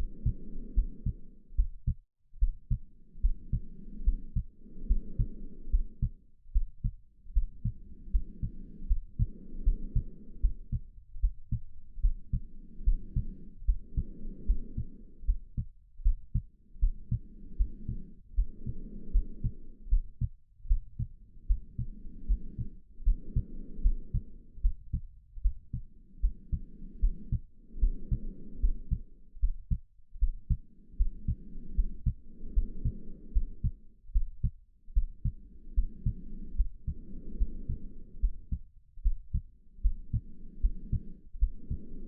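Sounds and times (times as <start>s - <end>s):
breathing: 0.0s - 2.0s, 2.7s - 42.0s
heartbeat thumps: 0.0s - 42.0s.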